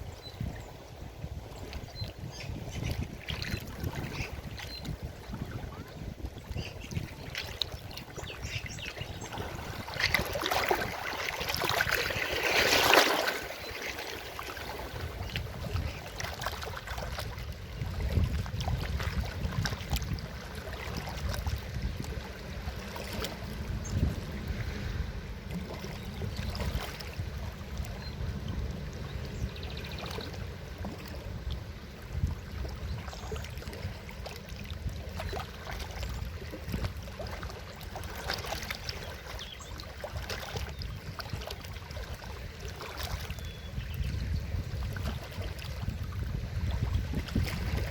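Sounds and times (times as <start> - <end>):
river water rushing and splashing: 0.7 - 29.0, 29.9 - 43.6, 44.8 - 47.9.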